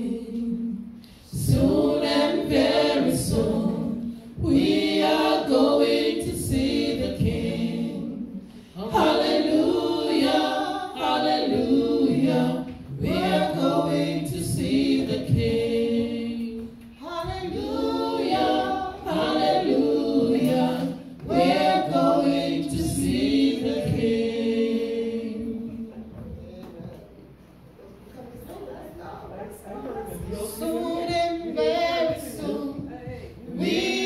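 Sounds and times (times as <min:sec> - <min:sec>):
congregation singing: 0:00.0 - 0:26.5, 0:29.8 - 0:34.0.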